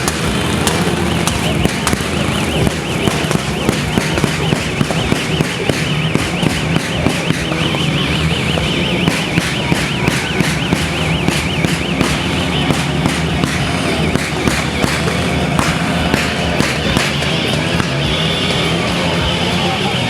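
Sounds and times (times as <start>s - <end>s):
warbling siren-like tone: 0.0s - 18.1s
rapid crackling pops: 0.0s - 18.2s.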